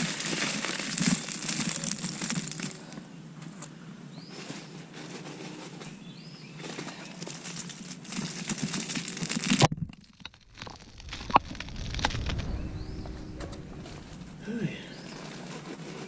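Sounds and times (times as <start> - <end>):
bagged mulch crinkling: 0.0 - 3.0, 4.3 - 16.0.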